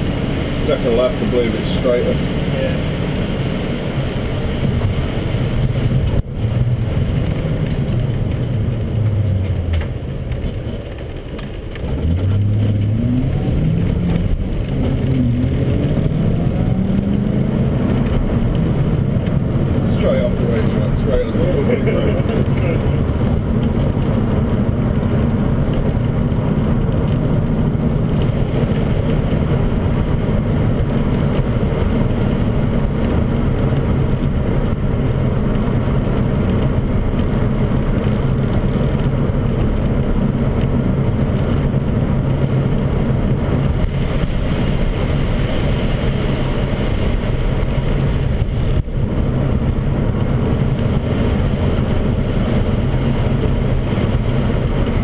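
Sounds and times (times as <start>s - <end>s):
car engine drone: 0.0s - 55.0s
tyre noise on wet road: 0.0s - 55.0s.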